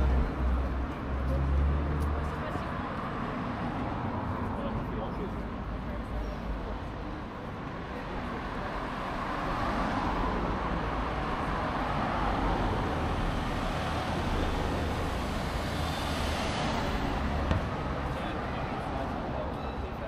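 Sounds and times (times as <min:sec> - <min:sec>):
low traffic rumble: 0:00.0 - 0:20.0.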